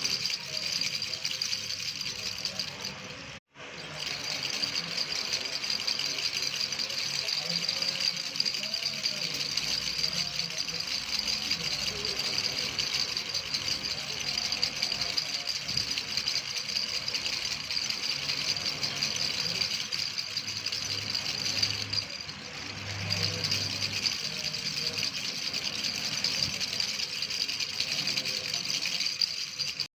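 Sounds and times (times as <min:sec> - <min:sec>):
fast rattle: 0:00.0 - 0:30.0.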